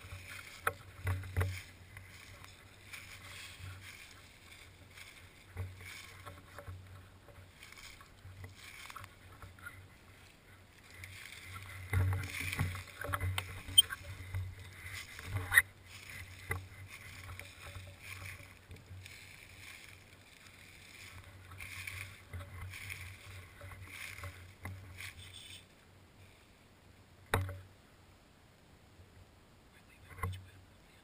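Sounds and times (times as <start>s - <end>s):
dry leaves crunching underfoot: 0.0s - 25.8s.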